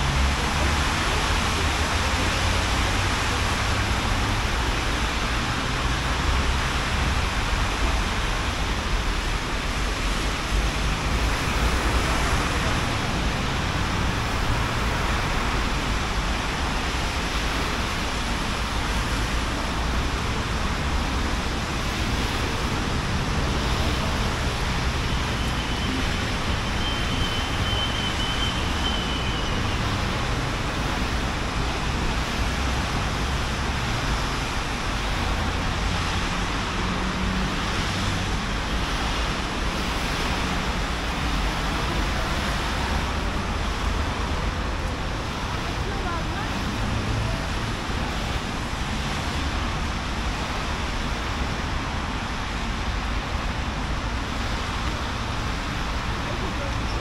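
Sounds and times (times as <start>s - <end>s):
falling rain: 0.0s - 57.0s
rumble of passing vehicles: 0.0s - 57.0s
tyres hissing on wet road: 0.0s - 57.0s.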